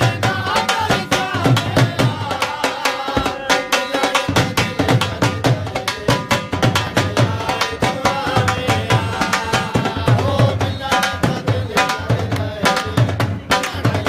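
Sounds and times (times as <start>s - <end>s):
barrel drum played fast with sticks: 0.0s - 14.0s.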